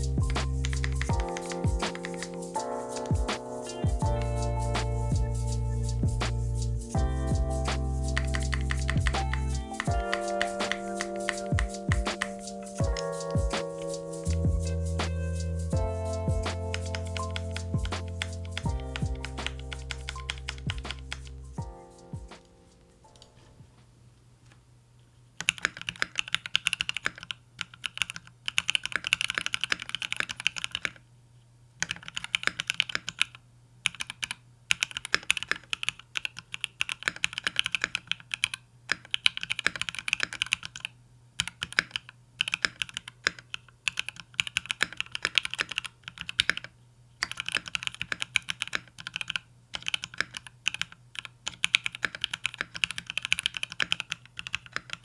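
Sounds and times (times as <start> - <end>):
mechanical keyboard typing: 0.0 - 5.5, 7.7 - 21.4, 25.4 - 31.0, 31.8 - 55.0.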